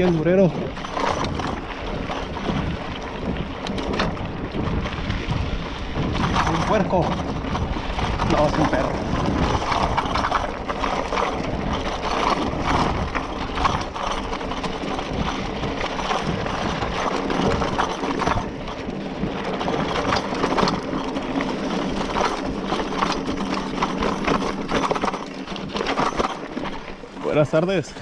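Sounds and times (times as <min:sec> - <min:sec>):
bike frame and bag rattling: 0:00.0 - 0:28.0
bike tyres clattering on stones: 0:00.0 - 0:28.0.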